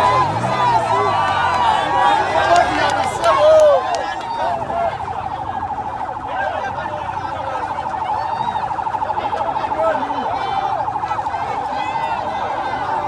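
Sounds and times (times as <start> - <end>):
warbling siren-like tone: 0.9 - 13.0.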